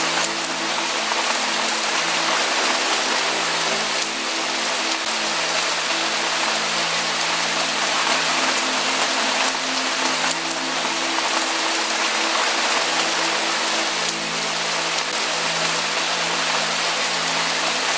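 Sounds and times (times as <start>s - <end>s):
steady rain hiss: 0.0s - 17.9s.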